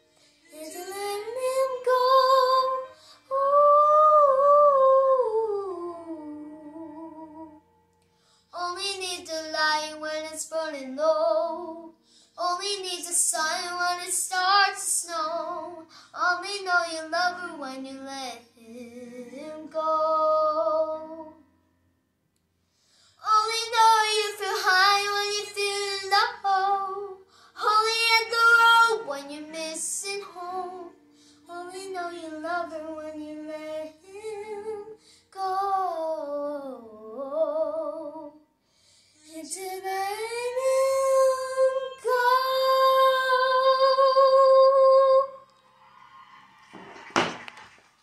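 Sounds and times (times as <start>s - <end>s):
girl singing unaccompanied: 0.0s - 7.7s, 8.5s - 21.4s, 23.2s - 38.5s, 39.2s - 45.5s.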